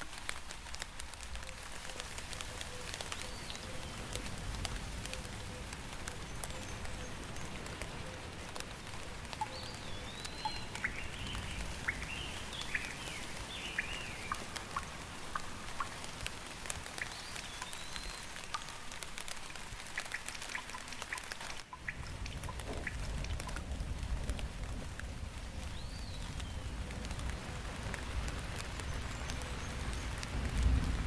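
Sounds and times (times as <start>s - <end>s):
raindrops ticking close by: 0.0s - 31.0s
steady rain: 0.0s - 31.0s.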